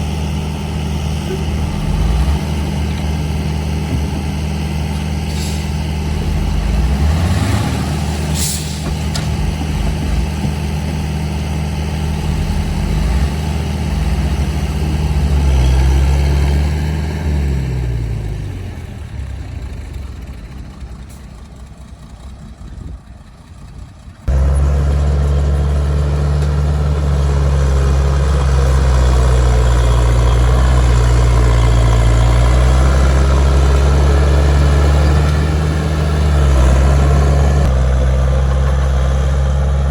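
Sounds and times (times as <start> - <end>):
close diesel engine running: 0.0 - 39.9
heavy diesel machinery droning: 0.0 - 39.9.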